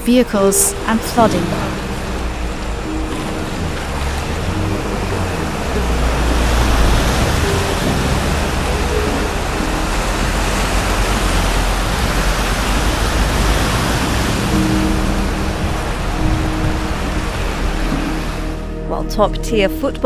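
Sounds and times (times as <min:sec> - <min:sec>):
floodwater rushing: 0:00.0 - 0:18.8
deep rumble: 0:00.7 - 0:20.0.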